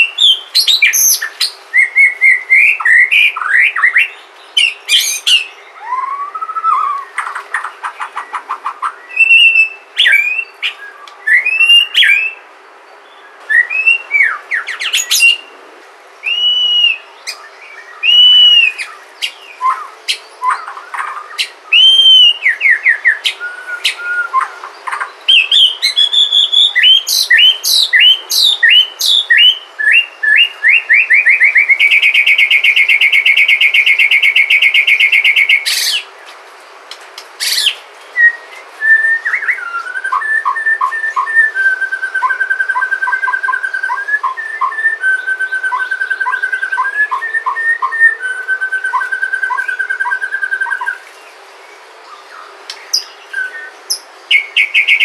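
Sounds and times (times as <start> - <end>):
songbird singing whistled phrases: 0.0 - 12.4, 13.1 - 15.6, 16.2 - 36.1, 37.4 - 51.2, 52.2 - 55.0.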